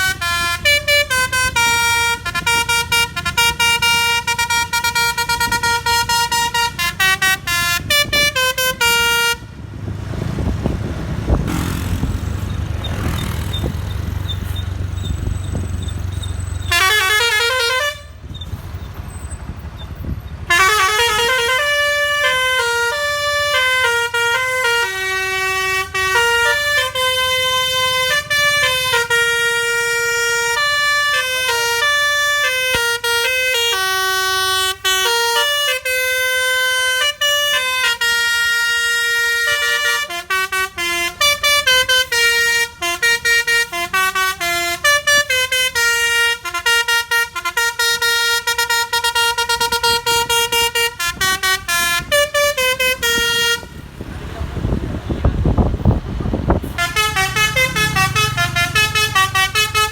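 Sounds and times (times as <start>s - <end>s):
bus horn playing a melody: 0.0s - 9.6s, 16.6s - 18.3s, 20.4s - 54.0s, 54.6s - 59.9s.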